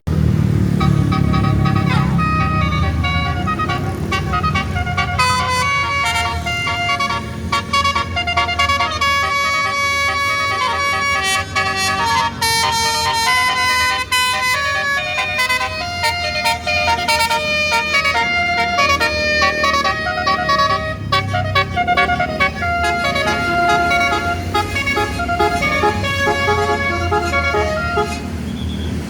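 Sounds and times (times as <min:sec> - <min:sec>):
low engine rumble: 0:00.1 - 0:29.0
multi-tone bus horn tune: 0:00.6 - 0:29.0.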